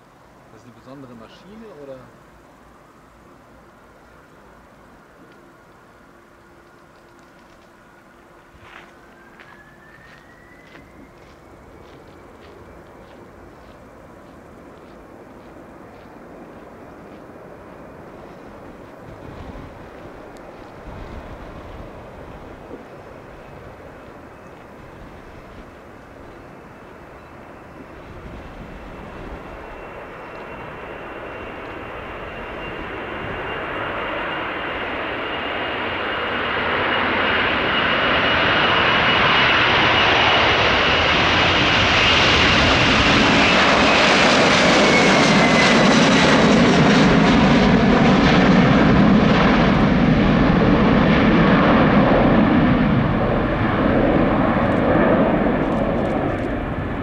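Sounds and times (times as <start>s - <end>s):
high fan whine: 0.0s - 57.0s
jet engines at takeoff: 0.0s - 57.0s
deep rumble of climbing jet: 4.6s - 57.0s.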